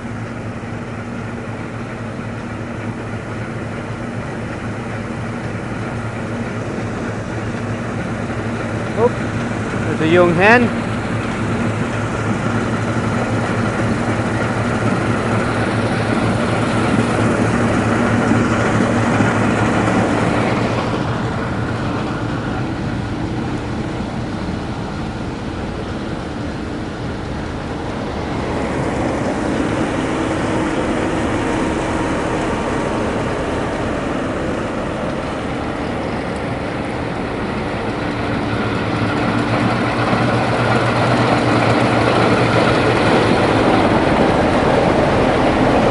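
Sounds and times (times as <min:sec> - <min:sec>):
combine harvester engine hum: 0:00.0 - 0:45.9.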